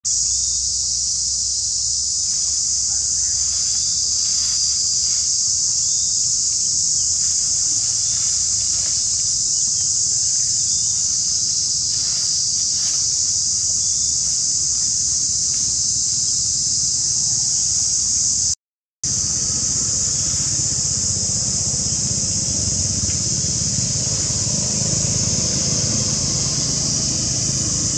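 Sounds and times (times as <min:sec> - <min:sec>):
insects droning: 0:00.0 - 0:27.9.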